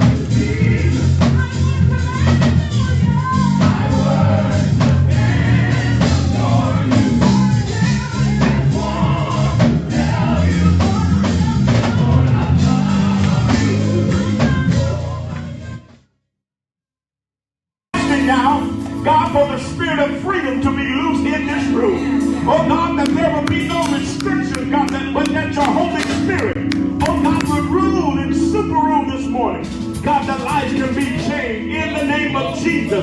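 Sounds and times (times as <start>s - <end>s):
gospel singing with drums and bass: 0.0s - 16.0s, 18.0s - 33.0s.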